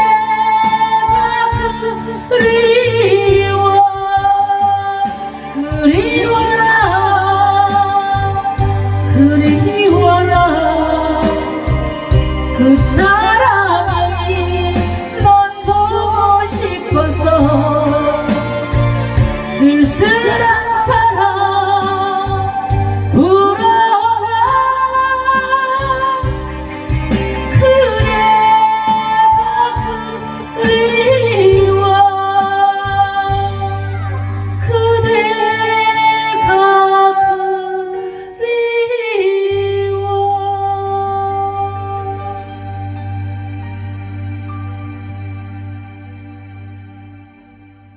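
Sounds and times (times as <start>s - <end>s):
instrumental ballad music: 0.0s - 47.9s.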